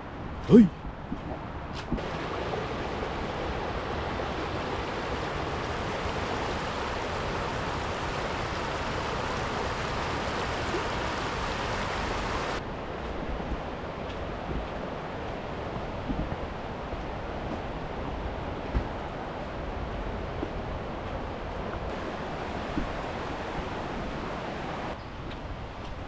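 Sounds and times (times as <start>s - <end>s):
water rushing: 2.0s - 25.0s.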